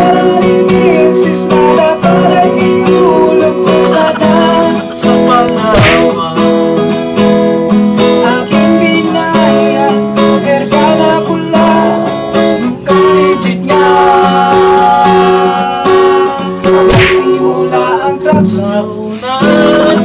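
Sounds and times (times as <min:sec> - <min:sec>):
man singing: 0:00.0 - 0:06.8, 0:08.0 - 0:20.0
acoustic guitar strumming: 0:00.0 - 0:20.0.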